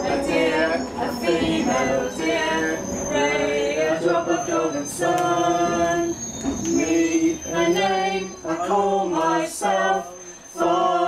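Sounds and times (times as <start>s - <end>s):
underground train rumble: 0.0s - 11.0s
voices singing: 0.0s - 11.0s.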